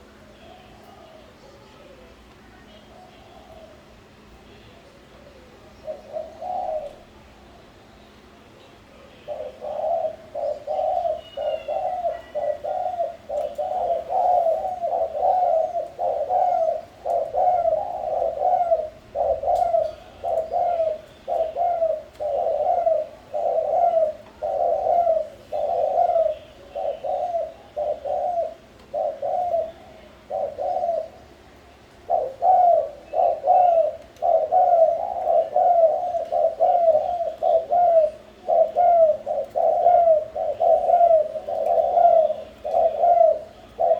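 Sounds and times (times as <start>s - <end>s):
doves cooing: 0.0s - 4.3s, 5.0s - 7.4s, 9.0s - 43.9s
small birds chirping: 0.0s - 43.9s.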